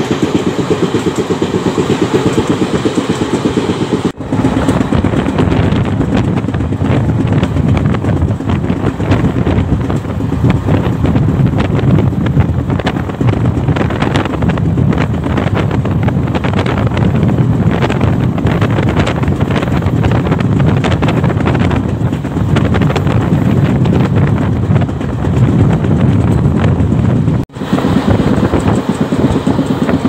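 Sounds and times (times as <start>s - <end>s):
train wheels rumbling on rails: 0.0s - 30.0s
wind rushing over microphone: 0.0s - 30.0s.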